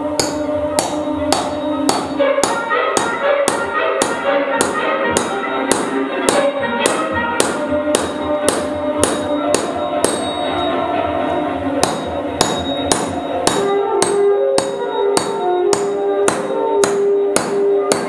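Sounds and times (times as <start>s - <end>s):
orchestral music: 0.0s - 18.0s
hammer striking nail: 0.2s - 10.4s, 11.8s - 18.0s.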